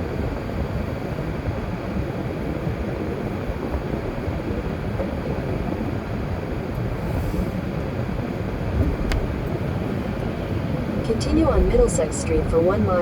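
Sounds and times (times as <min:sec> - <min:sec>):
car road and tyre noise: 0:00.0 - 0:13.0.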